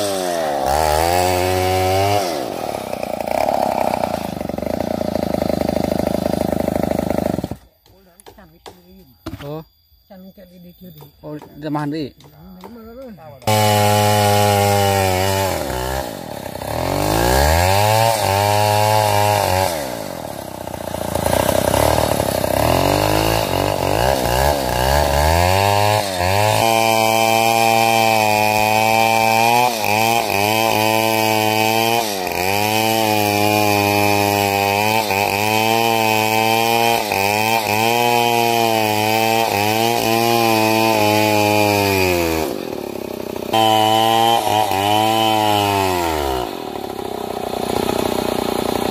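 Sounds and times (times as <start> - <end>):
chainsaw revving and cutting wood: 0.0 - 8.8, 11.3 - 48.9.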